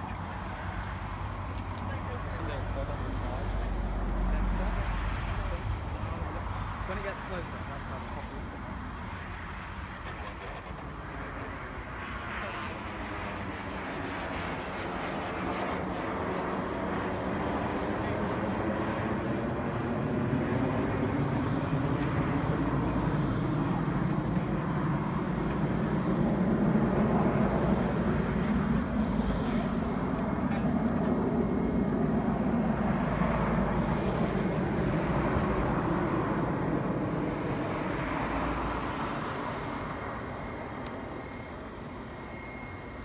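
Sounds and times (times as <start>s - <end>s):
faint high whine: 0.0s - 43.0s
jet engines rushing: 0.0s - 43.0s.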